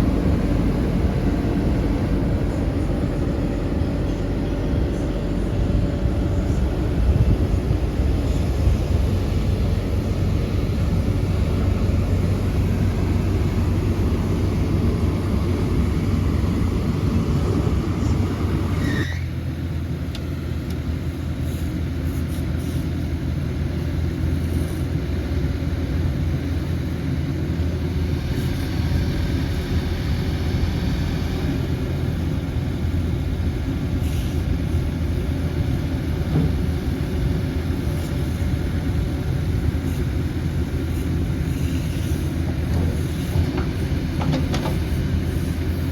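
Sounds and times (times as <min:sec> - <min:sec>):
excavator engine humming: 0:00.0 - 0:45.9.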